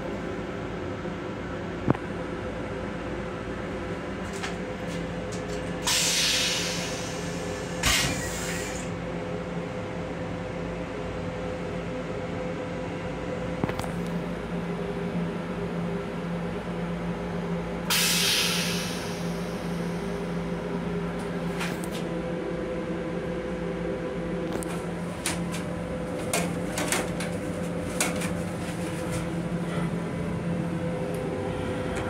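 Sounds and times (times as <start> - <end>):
railcar hum: 0.0 - 32.0.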